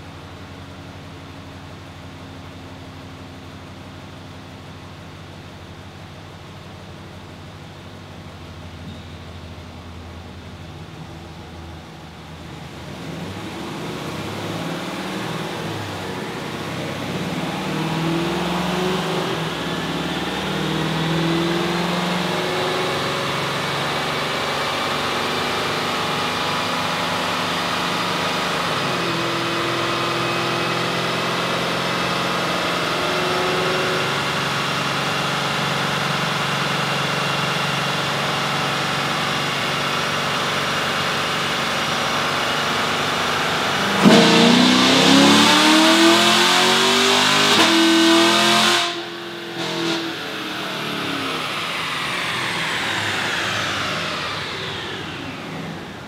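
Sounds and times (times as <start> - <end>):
car engine on dyno: 0.0 - 56.0.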